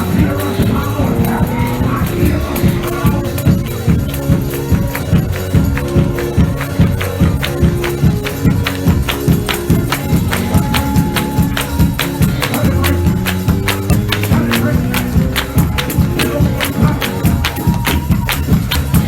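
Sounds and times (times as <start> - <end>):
church band music: 0.0 - 19.0.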